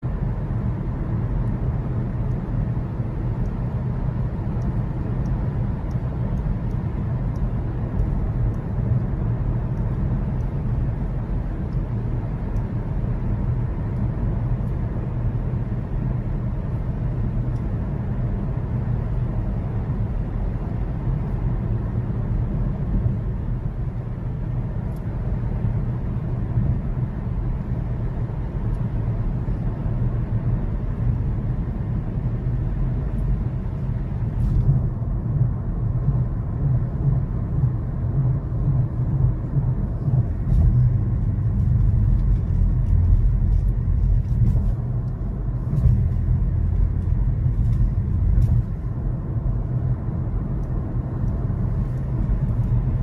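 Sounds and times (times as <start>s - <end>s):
diesel engine rumble: 0.0s - 53.0s.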